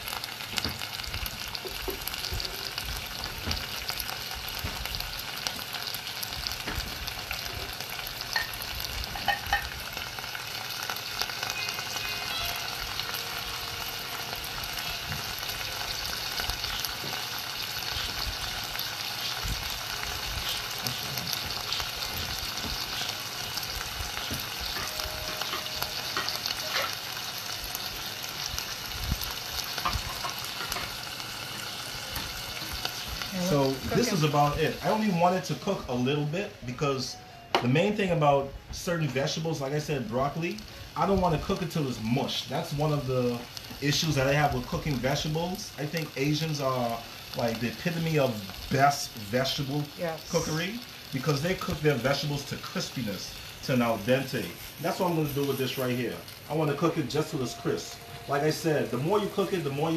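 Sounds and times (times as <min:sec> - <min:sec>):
vegetables sizzling in a saucepan: 0:00.0 - 0:59.9.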